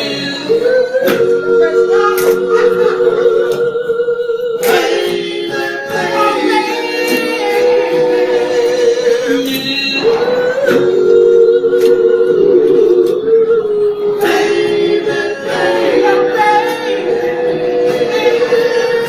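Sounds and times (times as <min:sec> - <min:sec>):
men singing harmony chords: 0:00.0 - 0:19.0.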